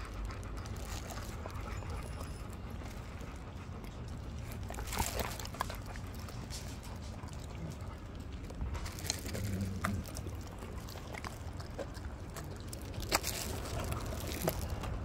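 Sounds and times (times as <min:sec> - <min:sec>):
dogs chewing: 0:00.0 - 0:15.0
steady low rumble: 0:00.0 - 0:15.0.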